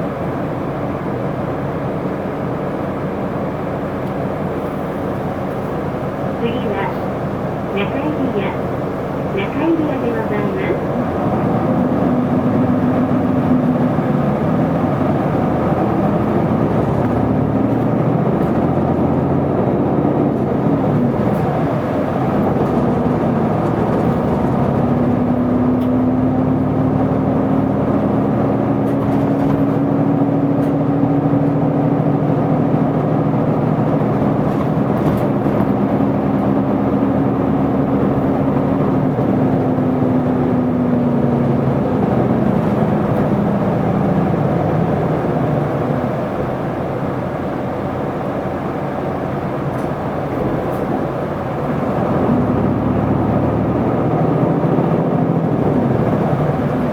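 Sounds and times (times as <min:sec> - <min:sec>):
diesel bus engine: 0:00.0 - 0:56.9
road noise: 0:00.0 - 0:56.9.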